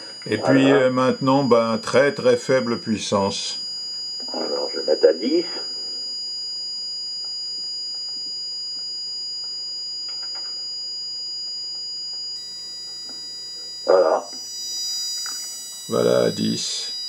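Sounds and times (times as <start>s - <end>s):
buzzer high-pitched tone: 0.0s - 17.0s.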